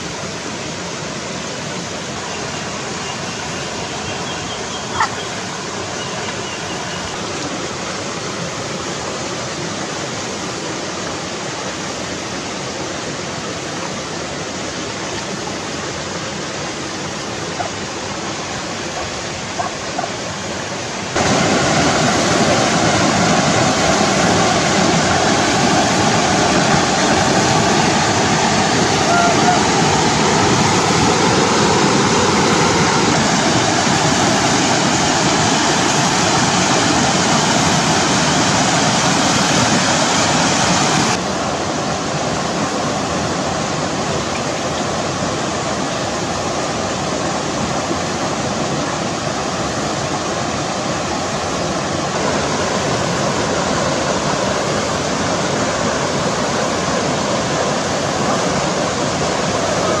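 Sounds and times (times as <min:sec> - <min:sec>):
waterfall and rapids roaring: 0:00.0 - 1:00.0.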